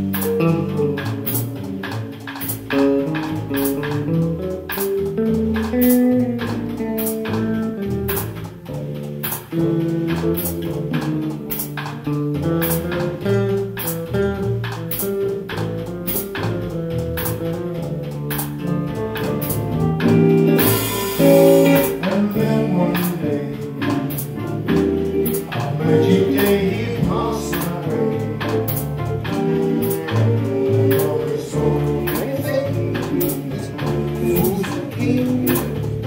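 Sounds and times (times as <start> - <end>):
drums with cymbal beat: 0.0 - 36.0
electric guitar lead: 0.0 - 36.0
upright bass: 0.0 - 36.0.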